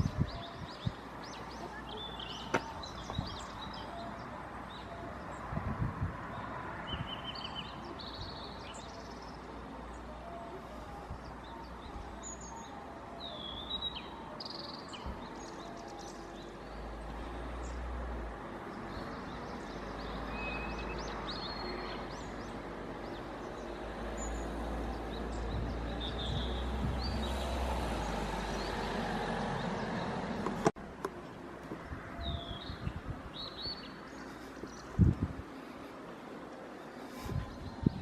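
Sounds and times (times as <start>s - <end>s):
small birds chirping: 0.0s - 5.6s, 6.2s - 38.0s.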